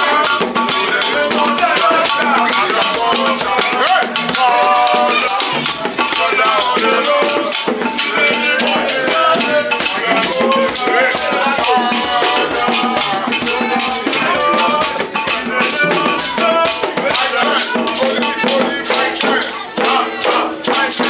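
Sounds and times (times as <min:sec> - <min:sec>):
shaker rattling: 0:00.0 - 0:21.0
voices singing: 0:00.0 - 0:21.0.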